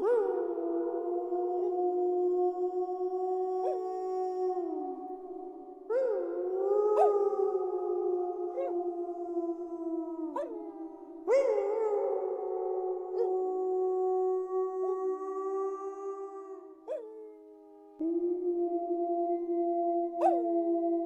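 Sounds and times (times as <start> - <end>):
wolves howling in chorus: 0.0 - 21.0.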